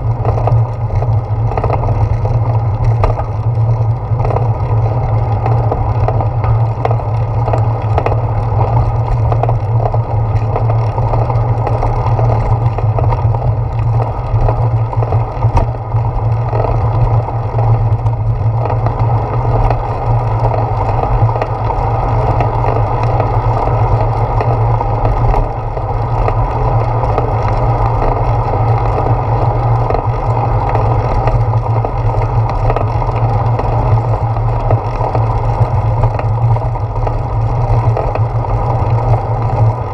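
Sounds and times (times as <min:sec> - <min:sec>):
bicycle rolling on pavement: 0:00.0 - 0:39.9.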